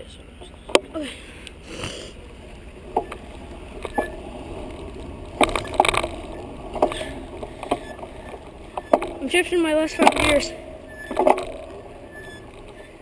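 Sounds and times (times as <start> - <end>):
low rumble: 2.2 - 13.0.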